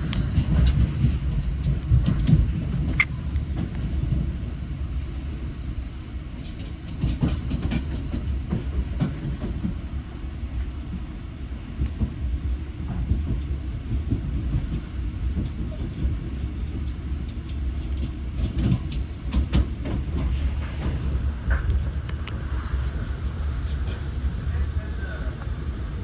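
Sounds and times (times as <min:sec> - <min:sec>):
sharp train clacks: 0:00.0 - 0:11.0, 0:11.6 - 0:25.6
train coach interior rumble: 0:00.0 - 0:26.0.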